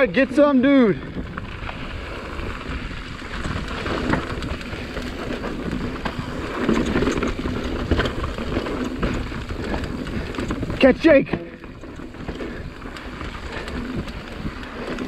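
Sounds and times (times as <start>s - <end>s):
bike tyres on dirt and rock: 0.0s - 15.0s
bike knocks and rattles: 1.2s - 15.0s.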